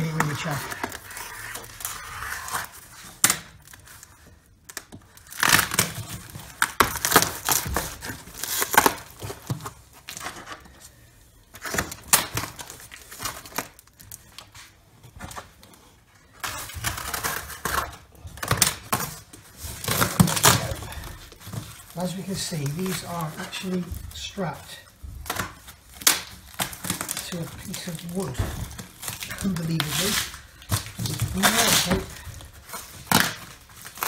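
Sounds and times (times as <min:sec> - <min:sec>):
cardboard and tape tearing: 0:00.0 - 0:34.0.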